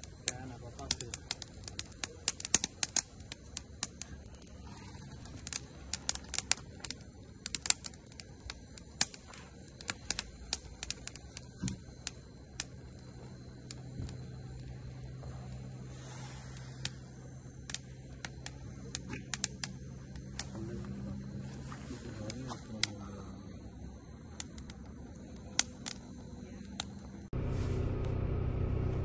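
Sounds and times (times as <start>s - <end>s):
campfire crackling and popping: 0.0s - 27.3s
steady low hum: 0.0s - 29.0s.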